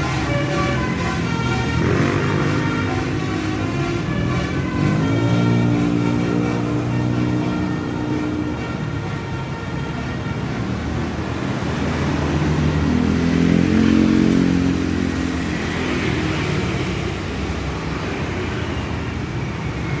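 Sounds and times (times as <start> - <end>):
bus engine passing: 0.0 - 20.0.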